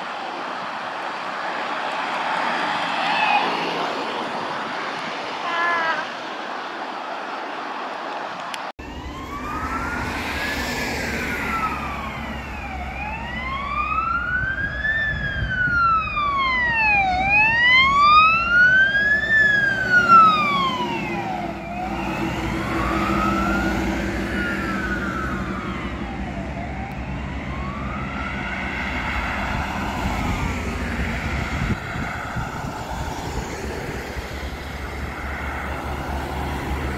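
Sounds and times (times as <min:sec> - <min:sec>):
fire engine siren wailing: 0:00.0 - 0:06.1, 0:08.8 - 0:36.9
diesel engine and tyre noise: 0:00.0 - 0:36.9.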